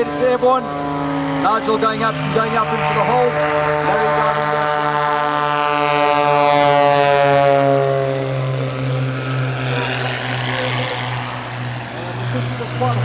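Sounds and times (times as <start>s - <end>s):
propeller plane diving past: 0.0s - 13.0s.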